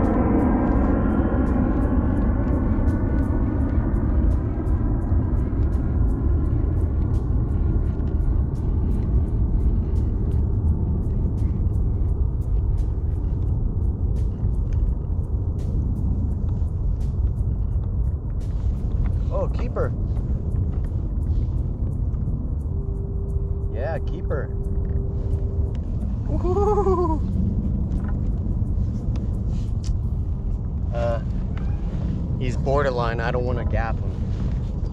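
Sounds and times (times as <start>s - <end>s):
droning hum: 0.0s - 34.9s
low rumble: 0.0s - 34.9s.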